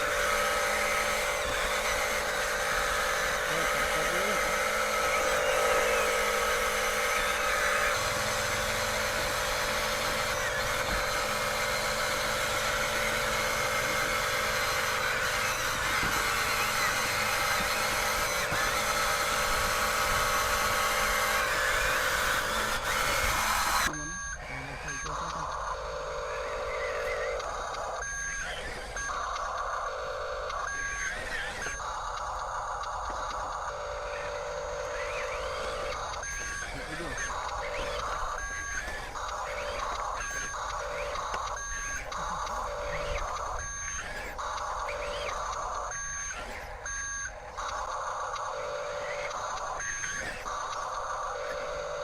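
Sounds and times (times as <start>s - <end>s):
toy electric motors whirring: 0.0s - 52.0s.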